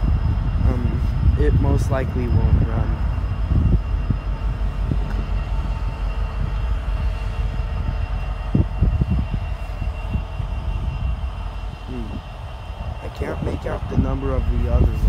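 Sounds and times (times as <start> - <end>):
diesel locomotives idling: 0.0 - 15.0
thin high whine: 0.0 - 15.0.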